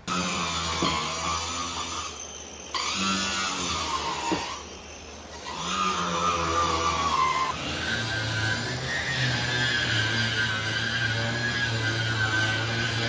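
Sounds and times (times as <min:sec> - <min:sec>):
power tool grinding into drywall: 0:00.0 - 0:13.0.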